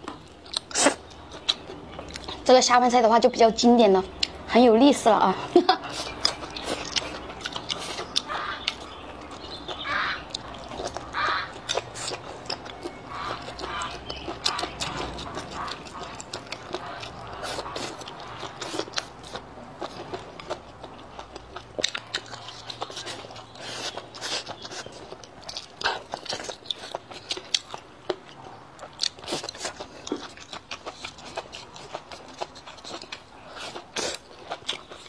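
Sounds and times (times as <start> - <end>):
person chewing and biting food: 0.0 - 2.4, 5.8 - 35.0.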